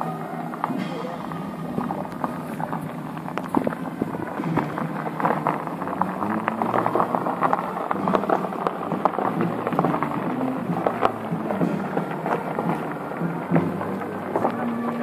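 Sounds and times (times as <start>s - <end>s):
footsteps crunching on gravel: 0.0s - 15.0s
low steady hum: 0.0s - 15.0s.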